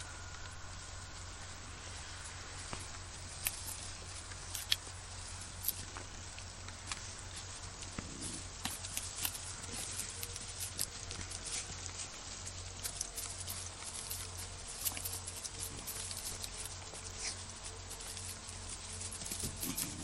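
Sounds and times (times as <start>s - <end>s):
low steady hum: 0.0s - 20.0s
puppy paws pattering on grass: 0.0s - 20.0s.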